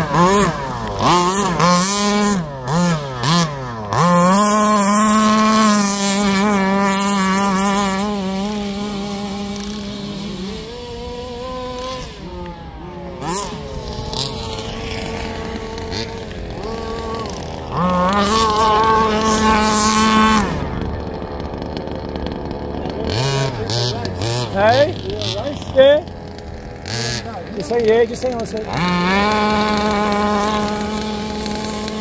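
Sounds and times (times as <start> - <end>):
small petrol engines revving: 0.0 - 32.0.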